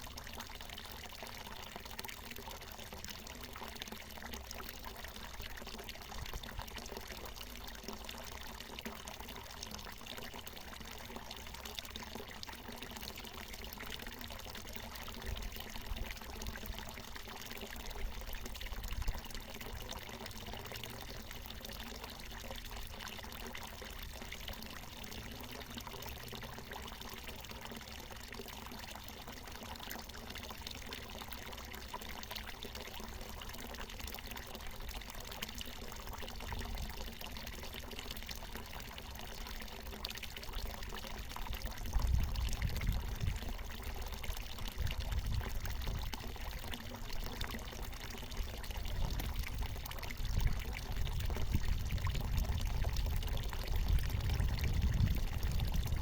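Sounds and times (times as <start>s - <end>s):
spring water pouring and splashing: 0.0s - 56.0s.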